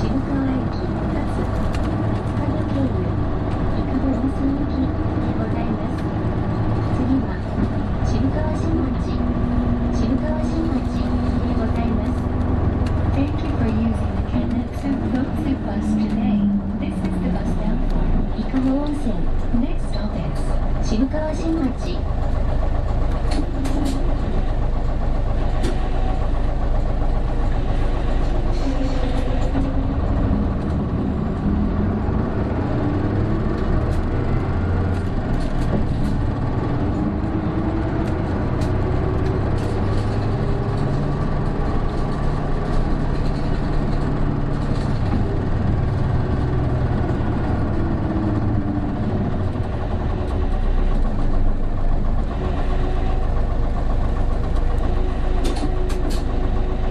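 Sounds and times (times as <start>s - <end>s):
bus engine drone: 0.0s - 56.9s
drivetrain whine: 0.0s - 56.9s.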